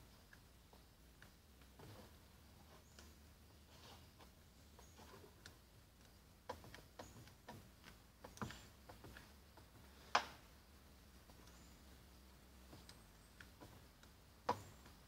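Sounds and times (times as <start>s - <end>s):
clicks and light taps: 0.0s - 15.0s.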